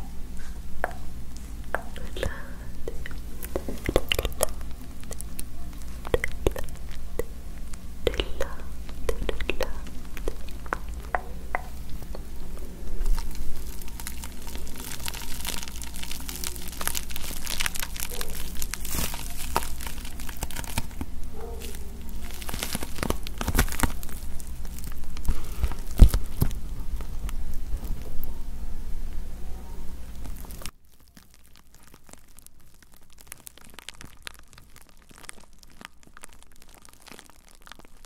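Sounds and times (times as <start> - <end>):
bubble wrap crackling: 0.0 - 28.6, 29.8 - 38.0
bubble wrap snap: 0.8 - 28.3, 30.1 - 38.0.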